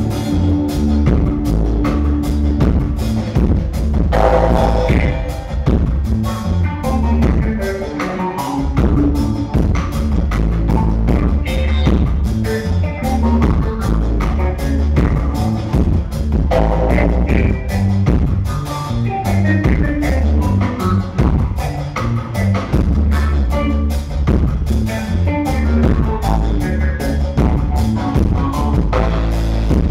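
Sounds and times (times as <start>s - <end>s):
dub reggae band playing: 0.0s - 29.9s
heavy electric bass line: 0.0s - 29.9s.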